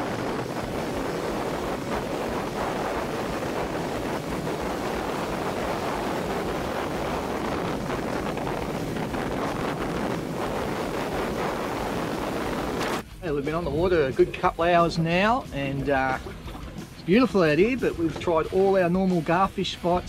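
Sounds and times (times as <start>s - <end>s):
wind rush over microphone: 0.0s - 19.4s
water rushing past hull: 0.0s - 19.8s
motorboat engine: 0.0s - 20.0s.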